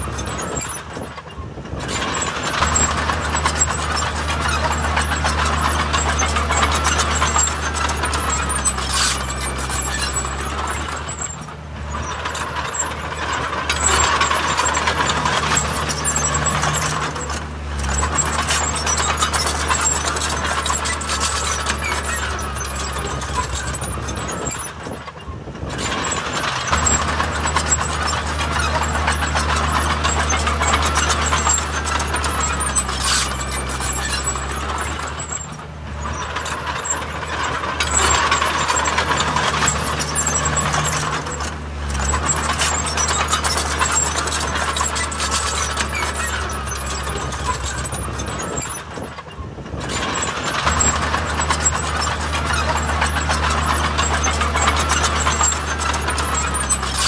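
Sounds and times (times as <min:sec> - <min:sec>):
heavy machinery engine drone: 0:00.0 - 0:57.0
metallic clatter: 0:00.0 - 0:57.0.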